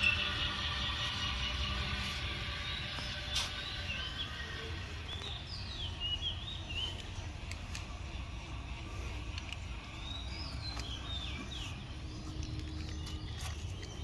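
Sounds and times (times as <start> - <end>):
songbird chirping: 0.0 - 8.2, 9.3 - 14.0.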